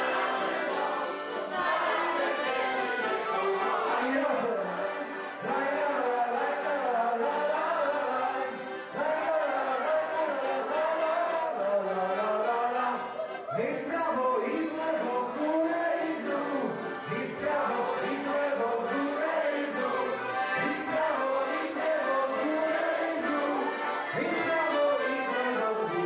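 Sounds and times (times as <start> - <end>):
jingling percussion beat: 0.0 - 13.0, 13.6 - 26.0
group singing along: 0.0 - 13.7, 14.3 - 26.0
festive party music: 0.0 - 26.0.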